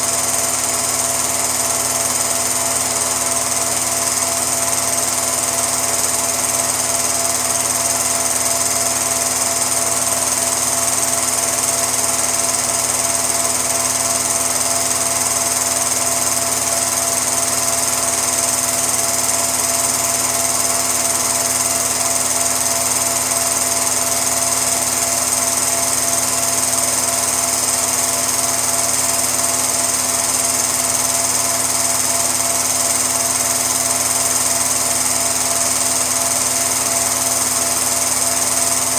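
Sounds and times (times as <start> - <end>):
machine whirring: 0.0 - 38.9.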